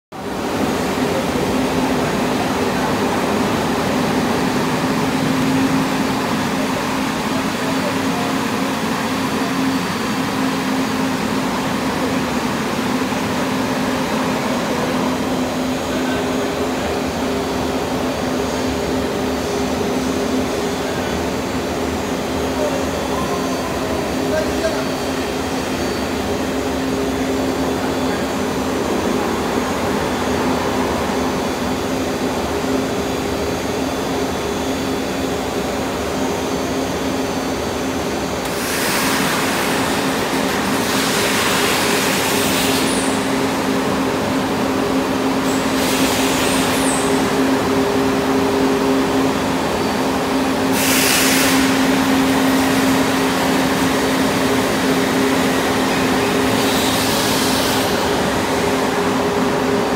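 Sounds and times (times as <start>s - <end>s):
floor grinder motor hum: 0.2s - 59.9s.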